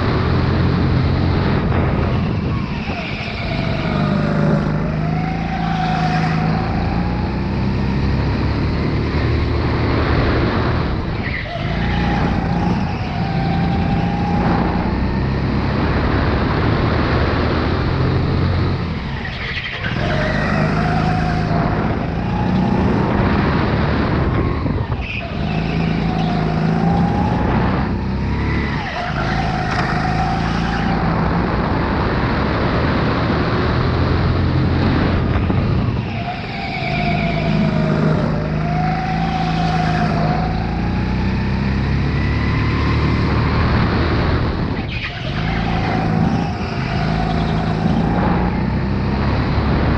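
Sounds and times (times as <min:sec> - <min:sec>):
kart engine revving: 0:00.0 - 0:49.9.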